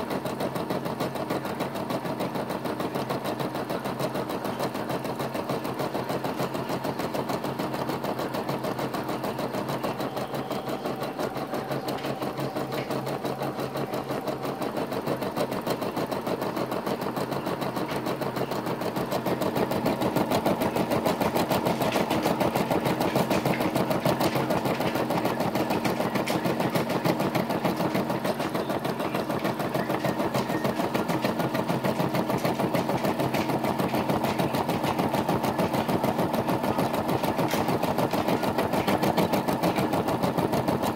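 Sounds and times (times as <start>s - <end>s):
embroidery machine stitching: 0.0s - 40.9s.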